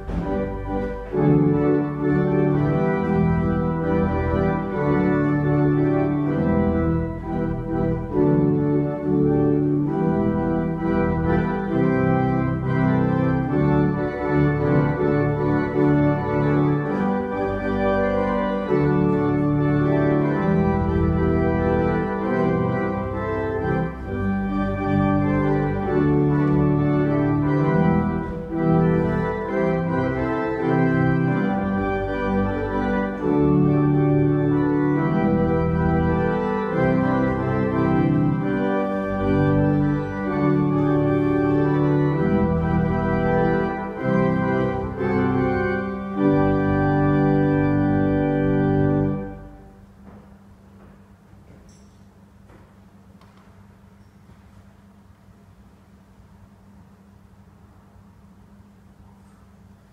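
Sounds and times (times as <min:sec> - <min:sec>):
church organ chords: 0:00.0 - 0:50.9.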